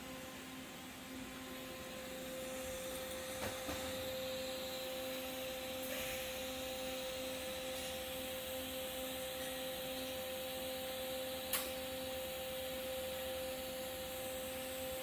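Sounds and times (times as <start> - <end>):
welding equipment hiss and hum: 0.0 - 15.0.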